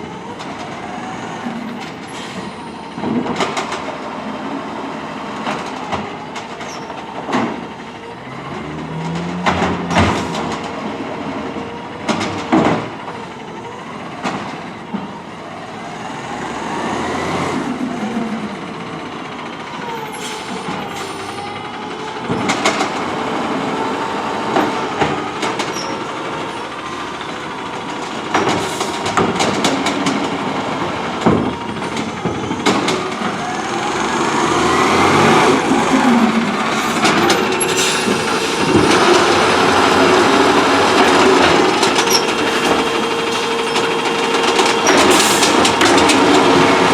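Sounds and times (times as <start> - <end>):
garbage truck engine and hydraulics whining: 0.0 - 46.9.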